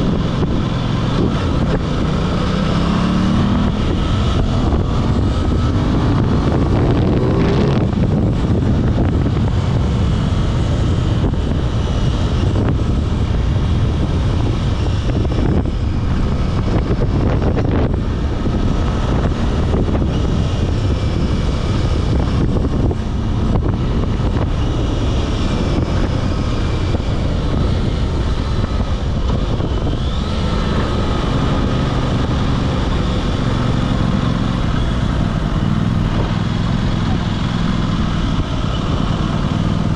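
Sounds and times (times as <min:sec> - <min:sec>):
motorcycle engine and exhaust running: 0:00.0 - 0:39.9
wind rushing over microphone: 0:00.0 - 0:39.9.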